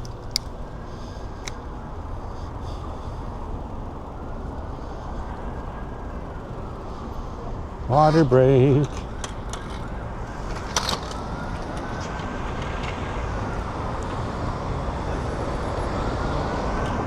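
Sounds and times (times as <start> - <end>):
faint high whine: 0.0 - 17.0
road traffic passing: 0.0 - 17.0.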